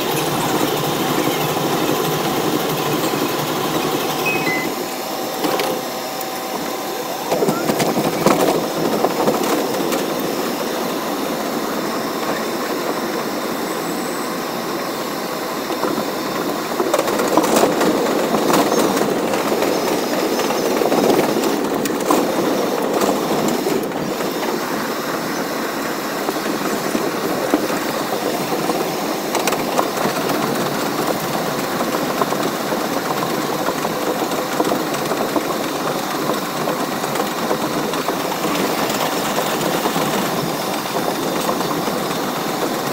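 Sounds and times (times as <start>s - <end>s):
subway train running on track: 0.0s - 42.9s.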